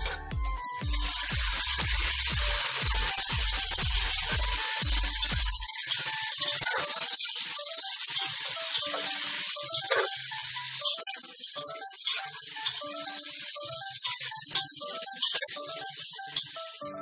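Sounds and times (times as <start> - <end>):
chicken sizzling in pot: 0.0 - 17.0
soft background music: 0.0 - 17.0.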